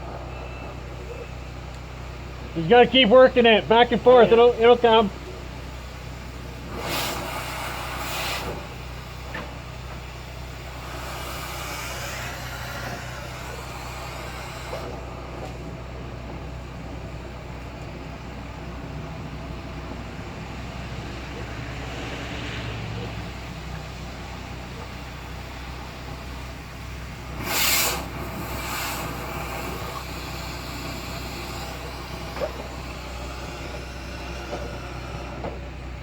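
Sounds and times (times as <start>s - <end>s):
power vacuum droning: 0.0s - 36.0s.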